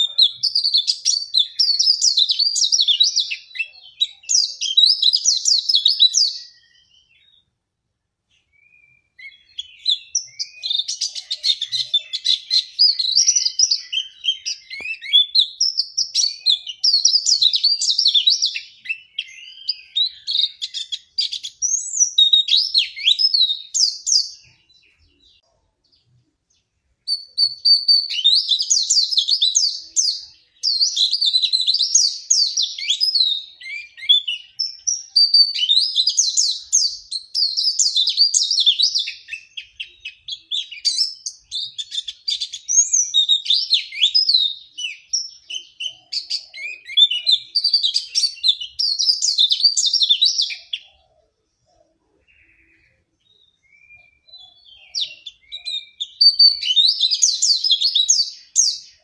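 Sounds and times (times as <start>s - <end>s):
bird twittering song: 0.0s - 7.6s, 8.3s - 59.0s.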